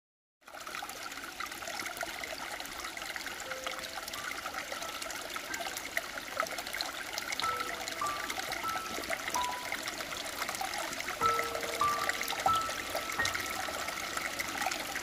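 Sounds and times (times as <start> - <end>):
stream water babbling: 0.4 - 15.0.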